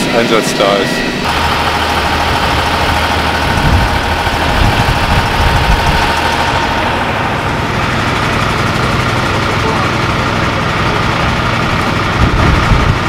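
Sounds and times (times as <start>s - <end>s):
diesel truck driving by: 1.2s - 13.0s.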